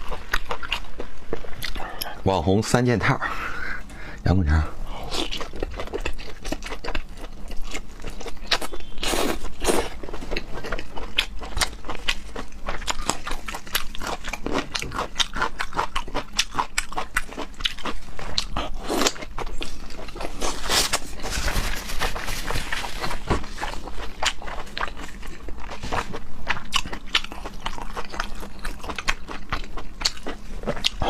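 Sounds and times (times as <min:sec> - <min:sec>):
mouth biting and chewing food: 0:05.0 - 0:31.0.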